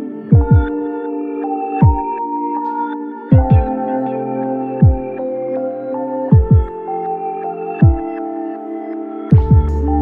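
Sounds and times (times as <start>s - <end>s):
ambient synth music: 0.0s - 10.0s.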